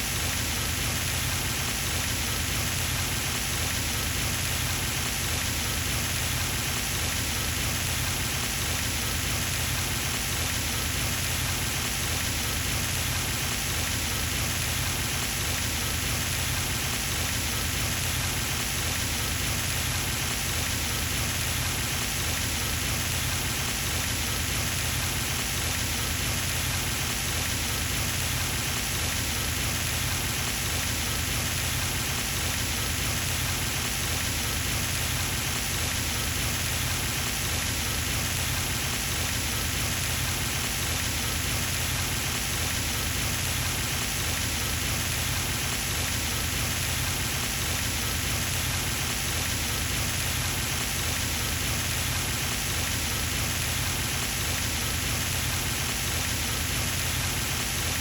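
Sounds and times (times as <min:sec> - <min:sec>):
fountain water splashing: 0:00.7 - 0:58.0.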